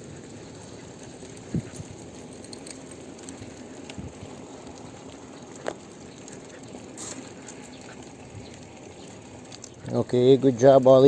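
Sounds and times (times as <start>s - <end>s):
bicycle rolling and rattling: 0.0s - 11.0s.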